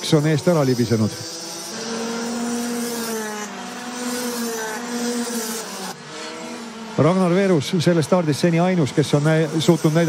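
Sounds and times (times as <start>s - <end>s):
kart engines buzzing: 0.0s - 10.0s.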